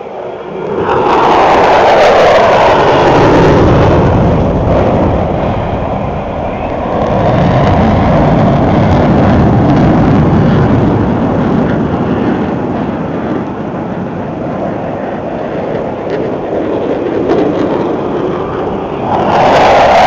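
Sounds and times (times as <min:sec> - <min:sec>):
jet flying past: 0:00.0 - 0:20.0.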